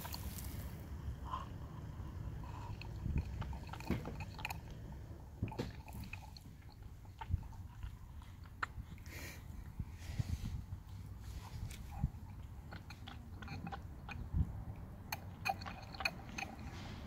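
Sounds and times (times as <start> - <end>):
monkey drinking and swallowing: 0.0 - 17.0.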